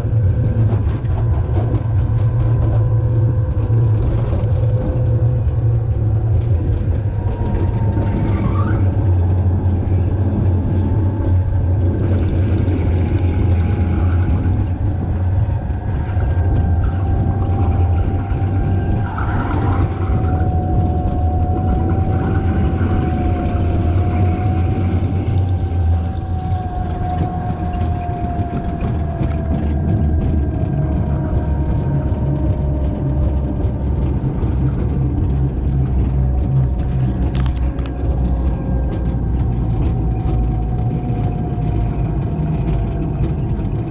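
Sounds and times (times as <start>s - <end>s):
thin wavering whine: 0.0s - 43.9s.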